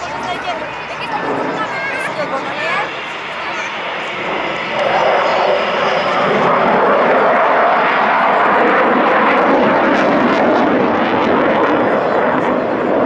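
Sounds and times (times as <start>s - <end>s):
aircraft engine rushing: 0.0s - 13.0s.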